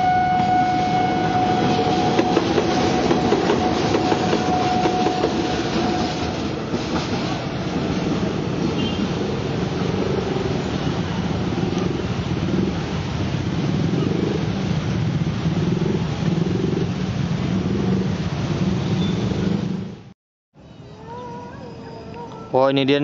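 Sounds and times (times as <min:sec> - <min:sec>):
diesel locomotive engines droning: 0:00.0 - 0:20.1.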